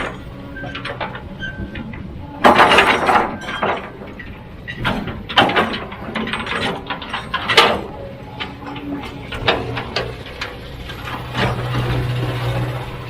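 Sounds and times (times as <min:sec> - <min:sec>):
clattering and scraping: 0:00.0 - 0:13.0
engine running steadily: 0:00.0 - 0:13.0.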